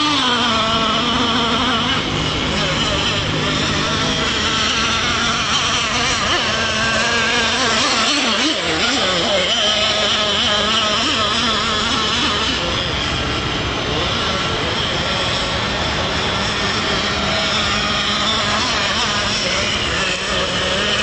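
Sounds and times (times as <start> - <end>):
model boat engine buzzing: 0.0 - 21.0.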